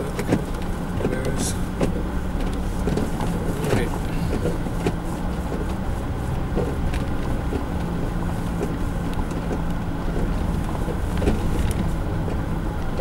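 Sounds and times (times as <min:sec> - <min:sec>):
light rattles and clicks: 0:00.0 - 0:13.0
road rumble: 0:00.0 - 0:13.0
van engine driving slowly: 0:00.0 - 0:13.0.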